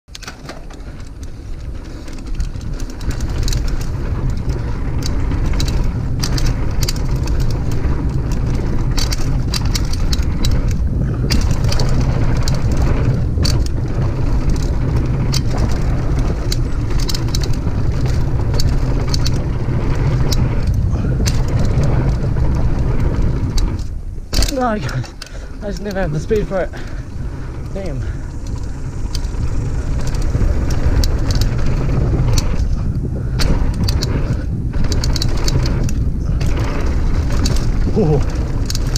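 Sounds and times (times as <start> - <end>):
bike clicks and rattles: 0.1 - 38.9
tyres rolling on dirt: 0.1 - 38.9
wind buffeting microphone: 0.7 - 38.9.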